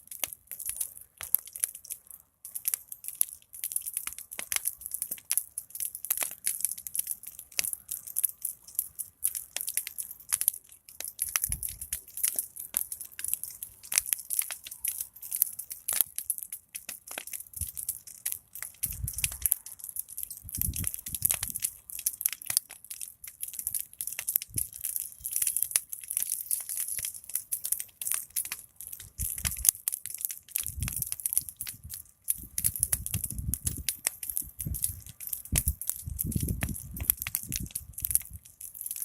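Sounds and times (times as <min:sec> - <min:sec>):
wood fire crackling: 0:00.0 - 0:39.0
low rumble of flames: 0:00.1 - 0:39.0.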